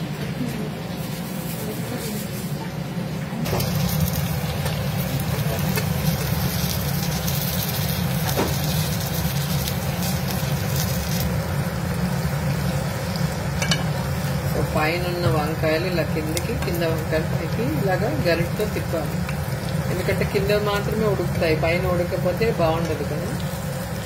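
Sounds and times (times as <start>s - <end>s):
food sizzling in oil: 3.4s - 24.0s.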